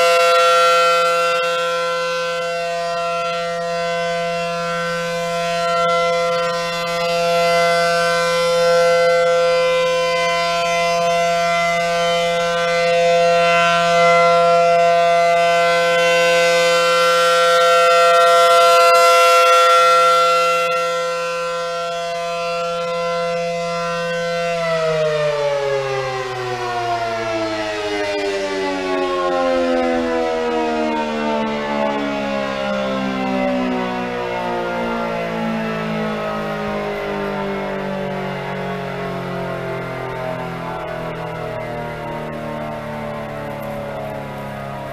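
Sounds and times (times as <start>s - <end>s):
warning siren alert chord: 0.0s - 44.9s.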